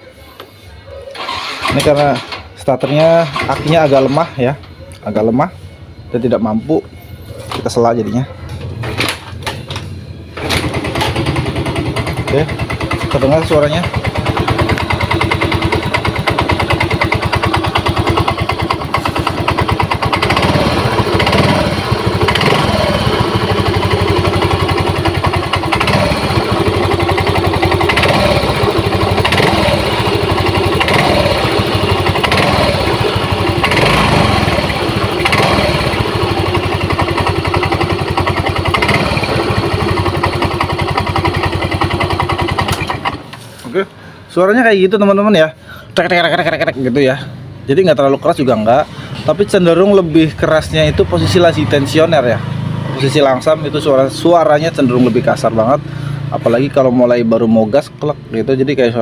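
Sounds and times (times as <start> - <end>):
scooter engine idling and revving: 1.1 - 4.3, 7.0 - 43.4, 46.3 - 59.0.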